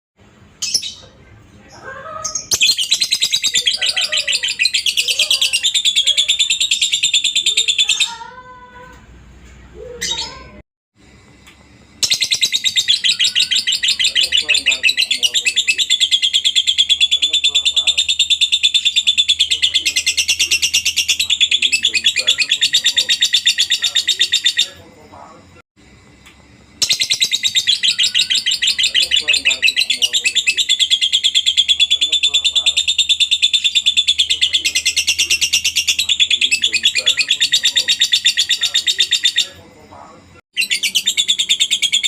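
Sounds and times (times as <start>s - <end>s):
lovebird chattering trill: 0.6s - 8.4s, 12.0s - 24.9s, 26.8s - 39.7s, 40.6s - 42.0s.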